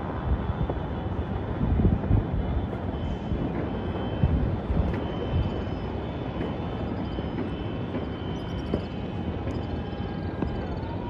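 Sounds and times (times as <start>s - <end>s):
distant traffic rumble: 0.0s - 11.0s
wind: 0.0s - 11.0s
faint distant pops: 2.0s - 10.8s.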